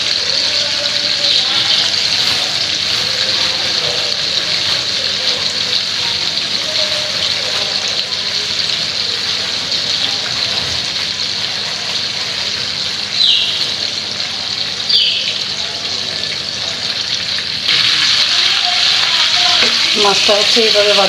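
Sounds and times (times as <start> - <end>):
shrimp sizzling in hot oil: 0.0 - 21.0.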